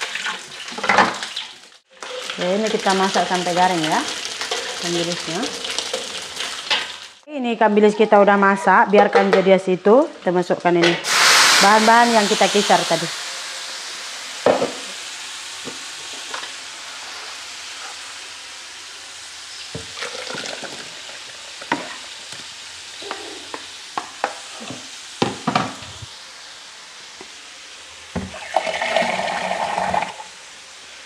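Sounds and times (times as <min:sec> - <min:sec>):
paste sizzling in hot oil: 0:00.0 - 0:07.3, 0:11.0 - 0:31.0.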